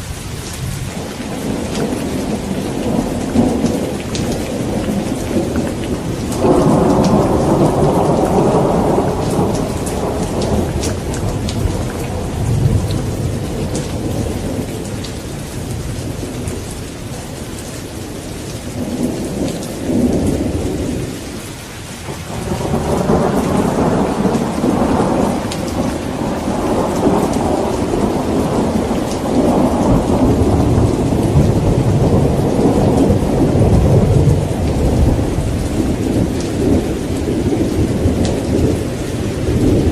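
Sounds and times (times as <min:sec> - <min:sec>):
rain hissing: 0:00.0 - 0:39.9
thunder rolling: 0:00.6 - 0:17.4, 0:22.1 - 0:39.9.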